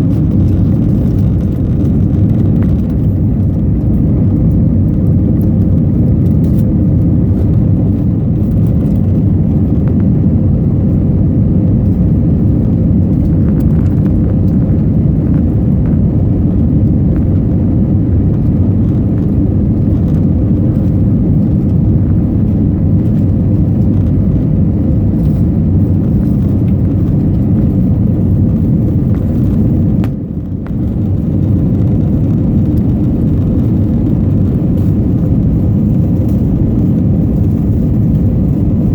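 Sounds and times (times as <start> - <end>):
aircraft cabin rumble: 0.0 - 38.9
faint steady hum: 0.0 - 38.9.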